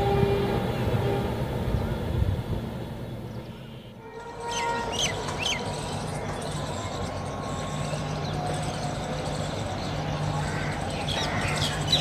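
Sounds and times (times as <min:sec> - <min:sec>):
outdoor background noise: 0:00.0 - 0:12.0
train rumble: 0:00.0 - 0:12.0.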